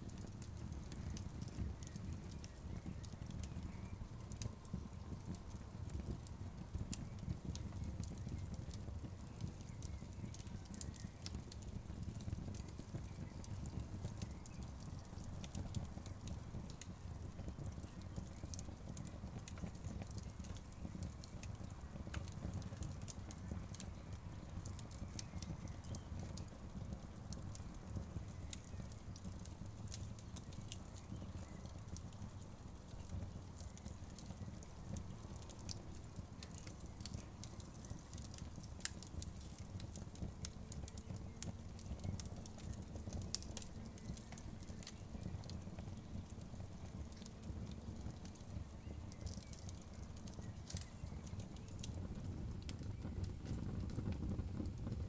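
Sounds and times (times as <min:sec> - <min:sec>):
fire low rumble: 0:00.0 - 0:55.0
wood fire crackling and popping: 0:00.0 - 0:55.0.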